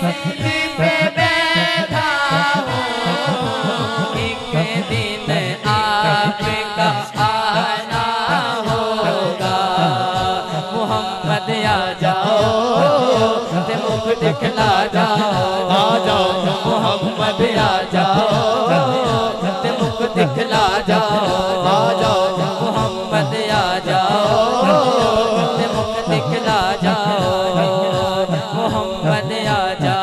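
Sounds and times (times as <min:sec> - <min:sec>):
low rhythmic pulse: 0:00.0 - 0:30.0
man singing over microphone: 0:00.0 - 0:30.0
men chanting in chorus: 0:00.0 - 0:30.0.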